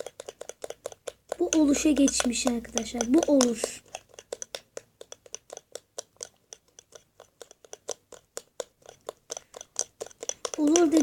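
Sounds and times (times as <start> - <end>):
utensil scraping container: 0.0 - 11.0.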